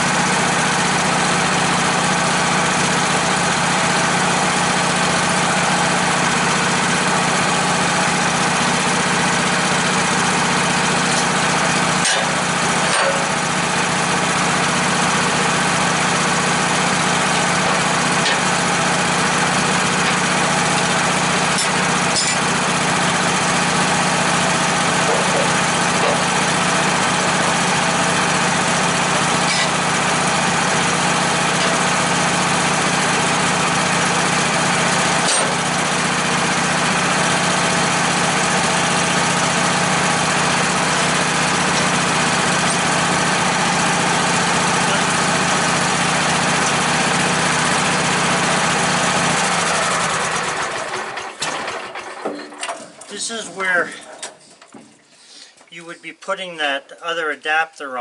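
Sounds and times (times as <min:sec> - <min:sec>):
engine idling: 0:00.0 - 0:54.5.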